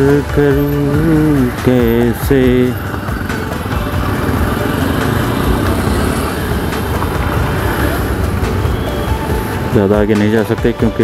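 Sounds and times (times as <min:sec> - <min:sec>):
motorcycle engine running: 0:00.0 - 0:09.9
rumble of traffic: 0:00.0 - 0:11.0.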